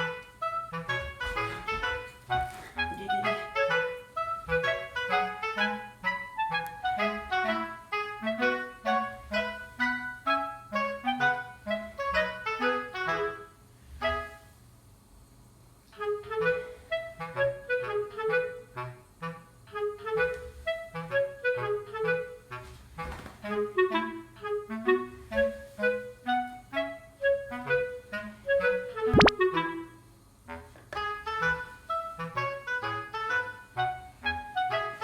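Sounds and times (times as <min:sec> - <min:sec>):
bouncy reedy wind instrument tune: 0:00.0 - 0:14.4, 0:15.9 - 0:35.0.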